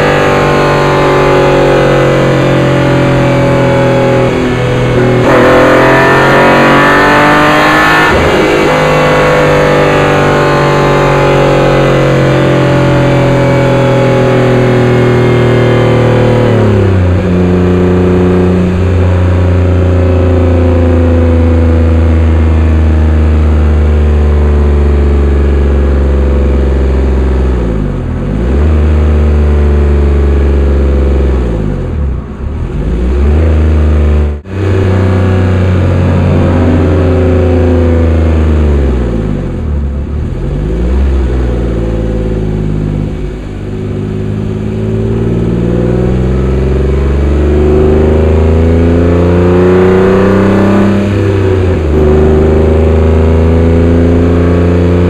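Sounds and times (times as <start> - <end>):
car engine running under load: 0.0 - 55.0.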